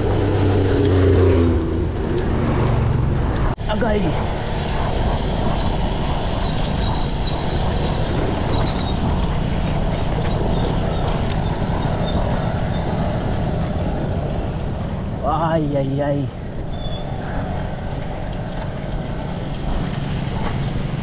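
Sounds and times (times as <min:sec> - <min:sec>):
bike tyres rumbling on rough road: 0:00.0 - 0:21.0
wind on microphone: 0:00.0 - 0:21.0.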